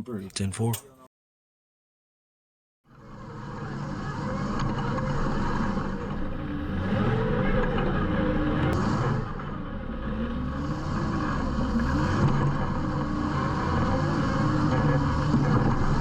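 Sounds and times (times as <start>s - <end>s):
off-road vehicle engine revving: 3.0s - 16.0s.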